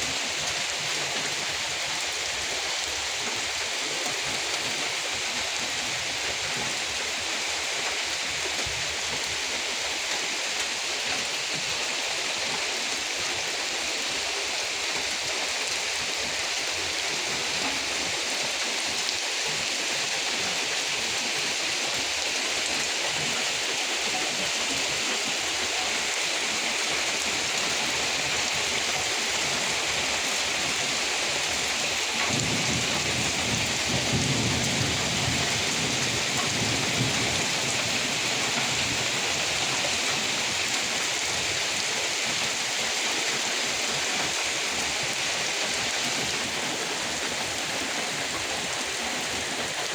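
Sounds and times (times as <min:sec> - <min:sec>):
heavy rain pattering: 0:00.0 - 0:49.9.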